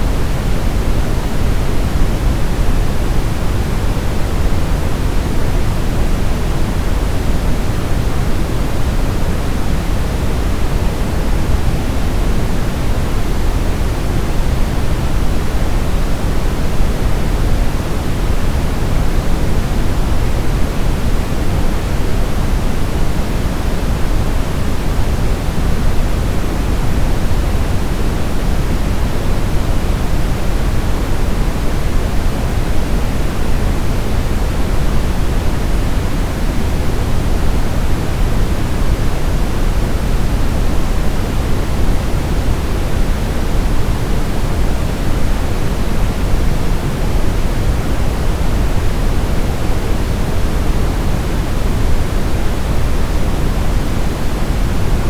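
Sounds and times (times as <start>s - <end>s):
white noise rush: 0.0s - 55.0s.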